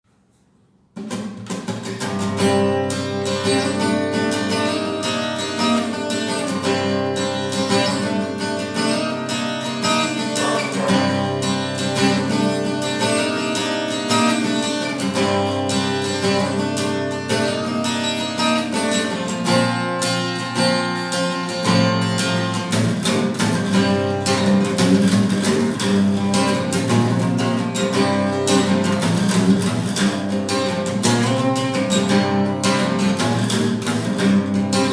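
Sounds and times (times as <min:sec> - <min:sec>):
acoustic guitar plucked and strummed: 0:00.1 - 0:34.9.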